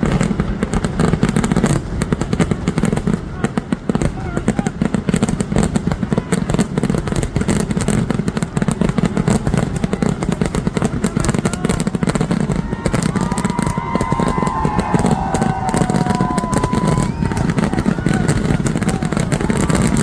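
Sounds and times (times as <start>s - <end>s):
firecracker bangs crackling: 0.0s - 20.0s.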